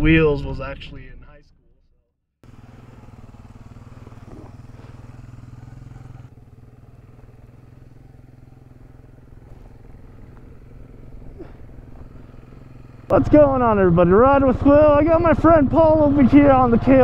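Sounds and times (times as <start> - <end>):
motorcycle engine idling: 2.4 - 17.0.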